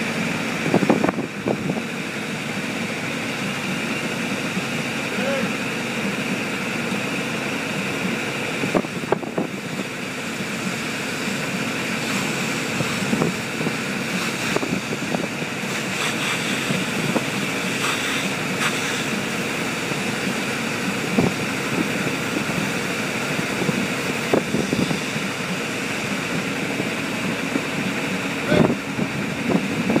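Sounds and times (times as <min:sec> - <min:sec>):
pump running: 0:00.0 - 0:30.0.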